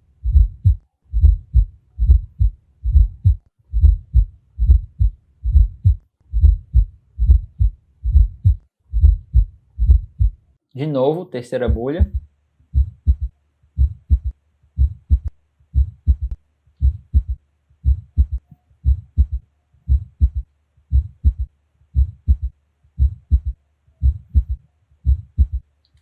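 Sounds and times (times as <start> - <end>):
faint low hum: 0.0 - 26.0
heartbeat thumps: 0.2 - 10.4, 11.6 - 25.7.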